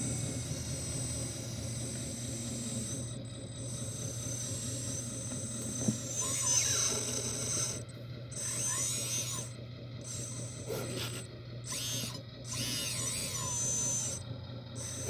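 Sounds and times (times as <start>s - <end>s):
diesel engine low hum: 0.0s - 15.0s
high-pitched mechanical squeaks: 0.0s - 15.0s.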